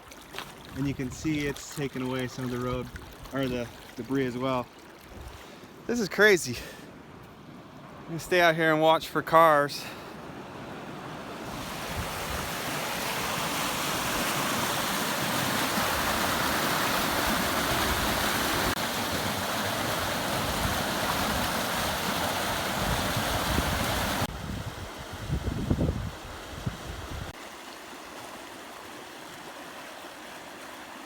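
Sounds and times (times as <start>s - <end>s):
floodwater rushing: 0.0s - 6.6s, 7.8s - 31.0s.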